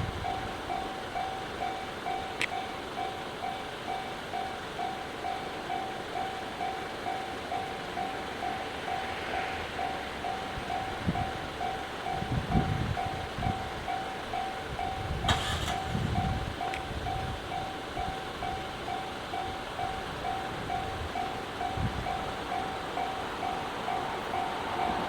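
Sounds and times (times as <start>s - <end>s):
level-crossing alarm dinging: 0.0s - 25.0s.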